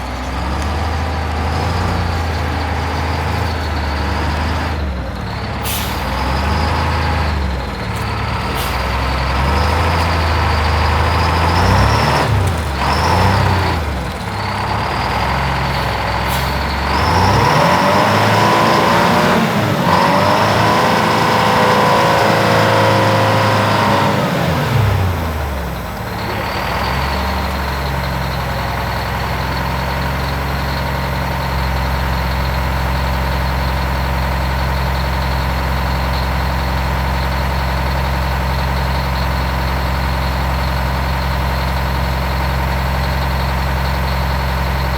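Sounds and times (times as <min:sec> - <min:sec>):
diesel truck engine revving: 0:00.0 - 0:44.9.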